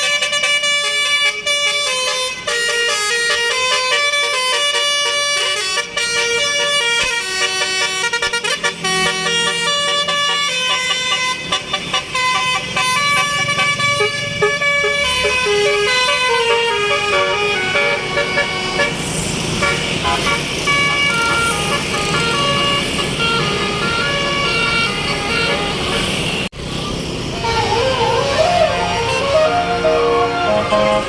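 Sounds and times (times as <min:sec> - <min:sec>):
air horns playing melody: 0:00.0 - 0:26.5, 0:27.4 - 0:31.0
bus engine noise: 0:00.0 - 0:31.0.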